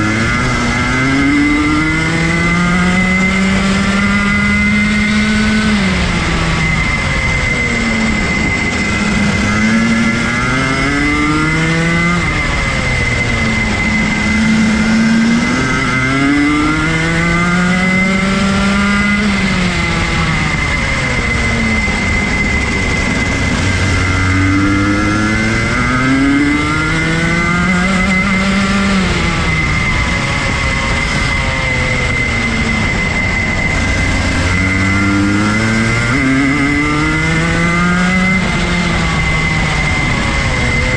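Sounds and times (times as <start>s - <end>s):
kart engine racing: 0.0s - 40.9s.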